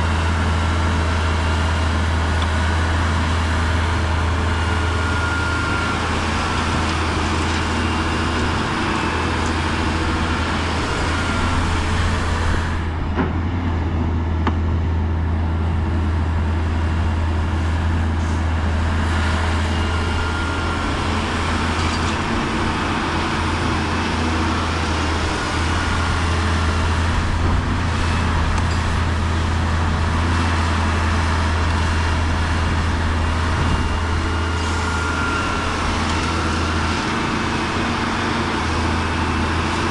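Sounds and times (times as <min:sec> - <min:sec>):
heavy diesel machinery drone: 0:00.0 - 0:39.9.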